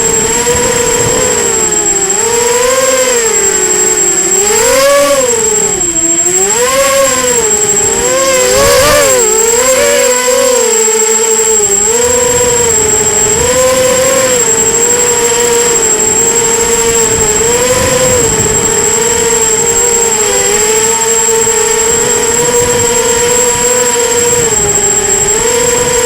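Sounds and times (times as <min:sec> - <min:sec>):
high-pitched whistle: 0:00.0 - 0:26.0
quadcopter motors whining: 0:00.0 - 0:26.0.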